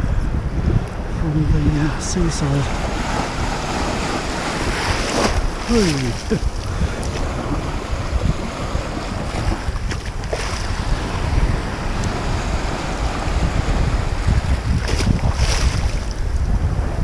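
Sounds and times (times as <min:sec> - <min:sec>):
wind buffeting microphone: 0:00.0 - 0:17.0
breaking surf: 0:01.4 - 0:17.0.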